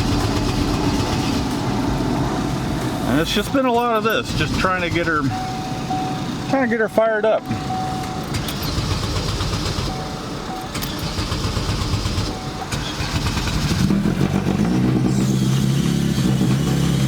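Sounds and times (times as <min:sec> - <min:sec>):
car engine cranking and starting: 0:00.0 - 0:17.0.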